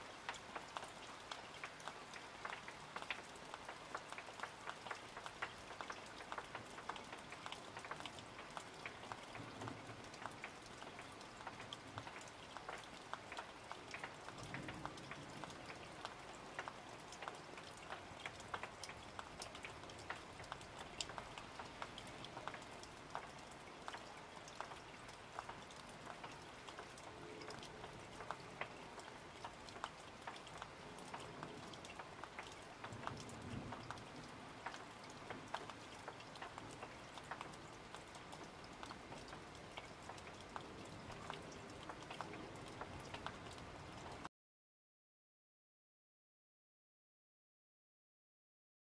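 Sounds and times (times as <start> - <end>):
rain falling steadily: 0.0 - 44.3.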